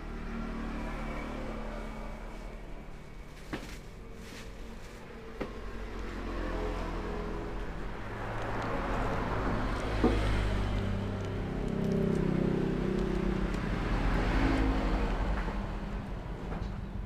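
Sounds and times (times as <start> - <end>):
motor vehicle engine hum: 0.0 - 17.0.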